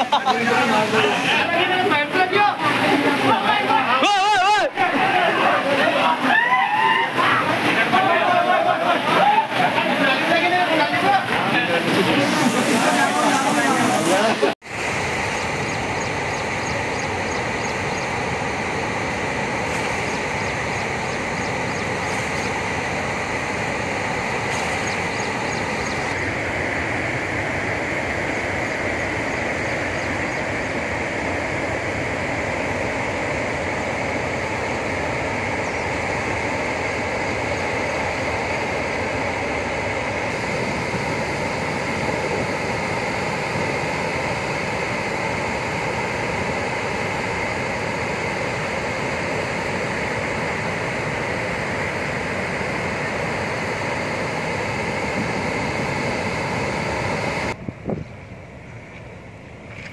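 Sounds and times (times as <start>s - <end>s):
floodwater rushing through spillway: 0.0s - 57.6s.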